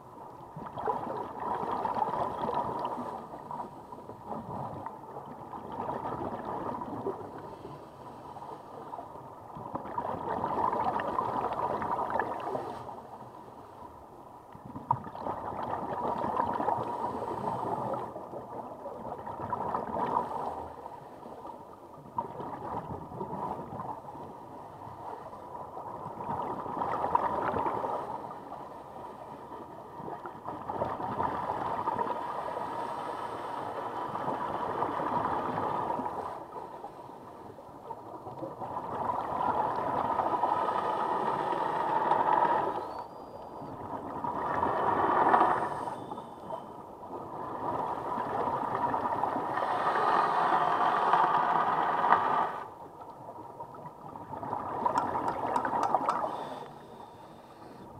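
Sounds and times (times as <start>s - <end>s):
exhaled bubbles gurgling underwater: 0.1s - 7.7s, 8.8s - 13.2s, 14.5s - 32.9s, 33.6s - 36.8s, 37.5s - 57.9s.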